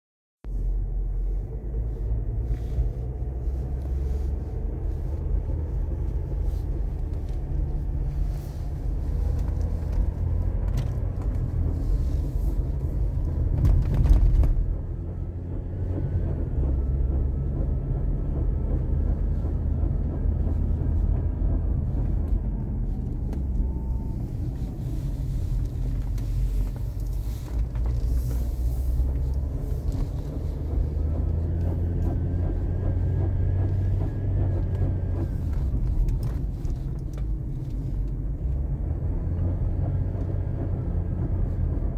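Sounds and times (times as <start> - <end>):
engine running with low rumble: 0.4 - 41.9
engine clicks: 3.7 - 41.9.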